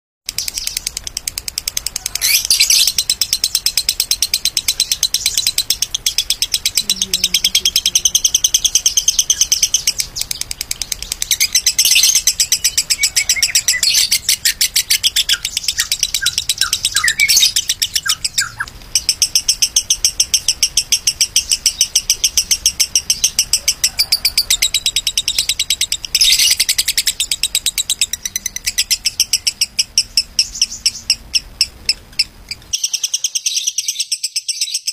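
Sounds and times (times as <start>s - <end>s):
lovebird chattering trill: 0.3s - 34.9s.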